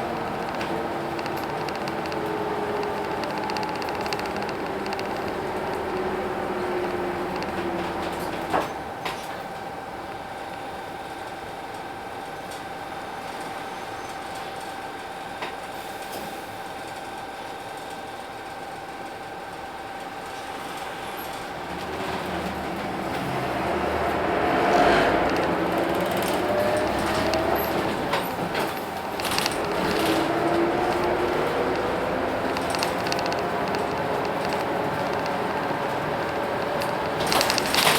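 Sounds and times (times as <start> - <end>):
bus diesel engine: 0.0 - 37.9
bus drivetrain whine: 0.0 - 37.9.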